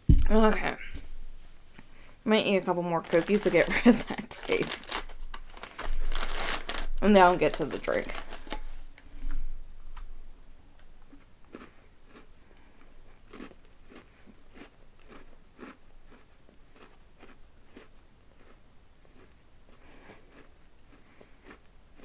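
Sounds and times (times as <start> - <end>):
crunchy cookie chewing: 0.2 - 22.0.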